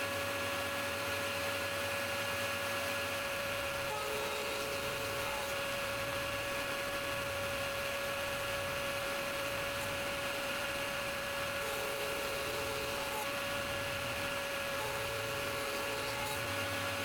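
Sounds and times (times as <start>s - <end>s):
thickness planer running: 0.7s - 17.0s.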